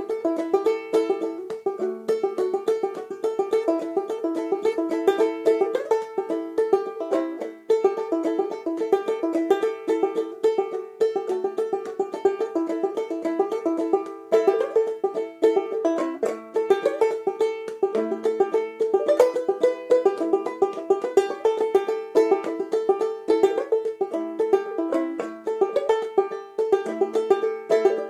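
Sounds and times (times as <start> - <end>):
banjo ukulele plucked and strummed: 0.0 - 28.0.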